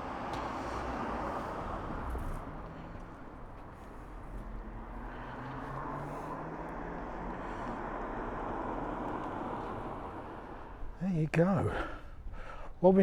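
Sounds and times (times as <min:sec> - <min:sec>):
tyres on the road: 0:00.0 - 0:13.0.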